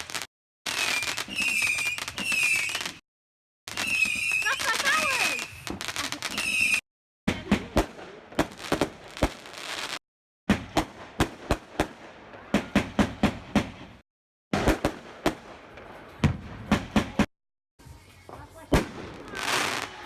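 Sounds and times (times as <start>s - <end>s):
fireworks bangs and cracks: 0.0s - 3.0s, 3.7s - 17.3s, 18.3s - 20.0s.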